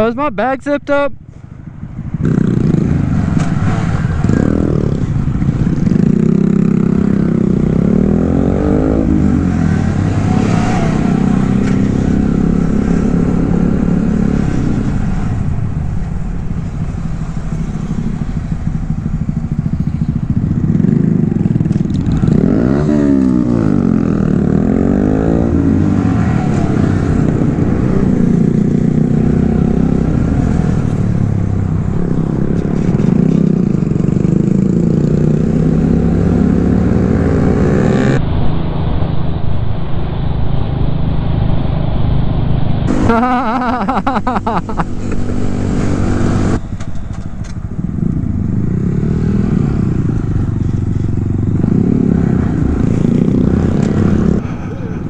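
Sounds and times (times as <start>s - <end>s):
motorcycle engines running: 1.2s - 38.2s, 42.9s - 55.0s
motorcycle engines revving: 1.7s - 38.4s, 42.4s - 55.0s.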